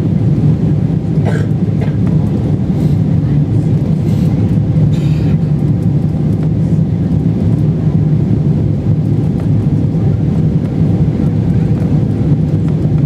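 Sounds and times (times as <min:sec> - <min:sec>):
jet engines roaring: 0:00.0 - 0:13.0
rushing airflow: 0:00.0 - 0:13.0.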